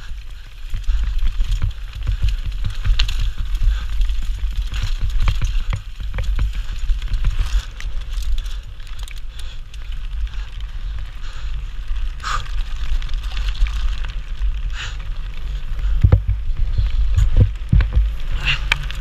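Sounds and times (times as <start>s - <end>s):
bike rattling and knocking: 0.0s - 19.0s
tyres crunching over stones: 0.0s - 19.0s
wind rumble on microphone: 0.0s - 19.0s.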